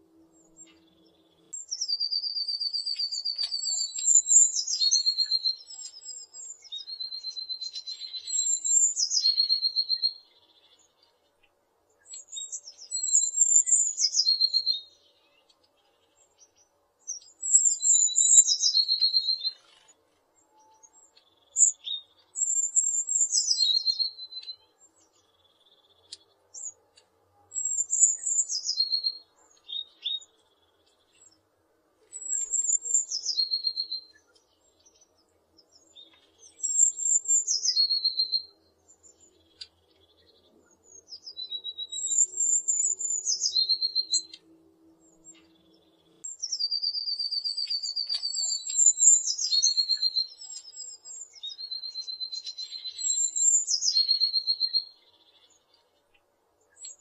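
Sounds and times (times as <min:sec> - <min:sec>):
bird singing trills: 0:00.0 - 0:11.4, 0:12.0 - 0:31.4, 0:32.0 - 0:57.0.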